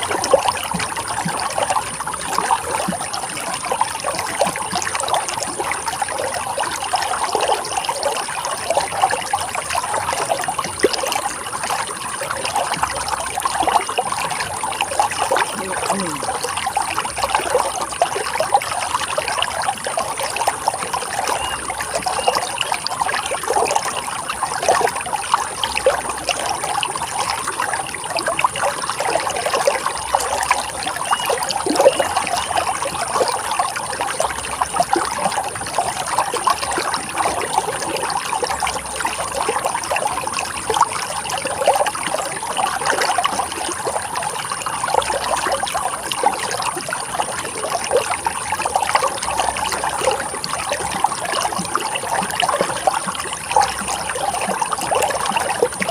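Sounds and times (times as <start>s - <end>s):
water splashing over rocks: 0.0s - 55.9s.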